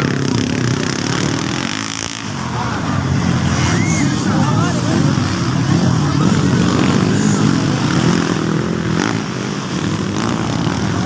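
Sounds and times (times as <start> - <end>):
motorcycle engines droning: 0.0 - 11.0.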